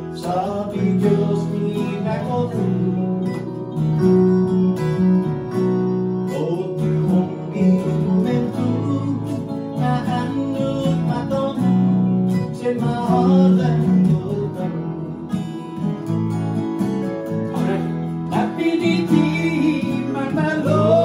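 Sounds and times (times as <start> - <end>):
electric bass: 0.0 - 21.0
electric guitar: 0.0 - 21.0
electric keyboard: 0.0 - 21.0
strummed acoustic guitar: 0.0 - 21.0.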